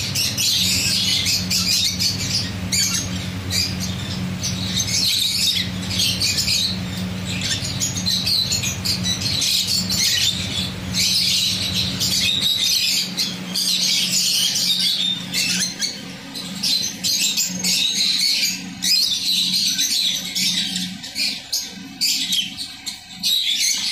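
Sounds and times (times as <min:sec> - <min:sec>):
budgerigars chattering: 0:00.0 - 0:23.9.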